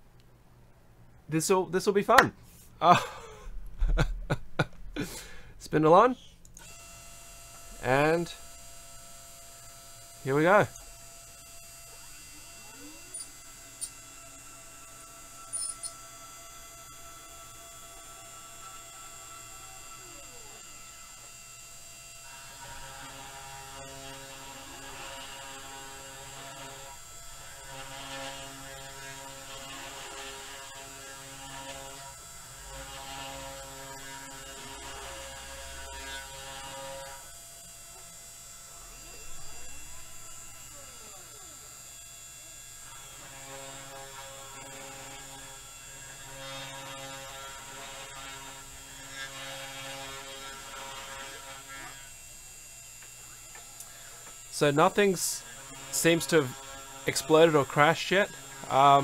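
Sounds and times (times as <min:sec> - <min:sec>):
spindle hum: 0:02.4 - 0:59.0
motor whines: 0:06.2 - 0:59.0.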